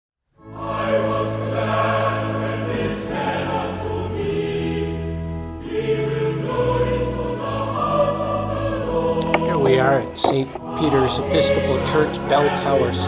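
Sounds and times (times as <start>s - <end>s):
choir singing held chords: 0.4s - 13.0s.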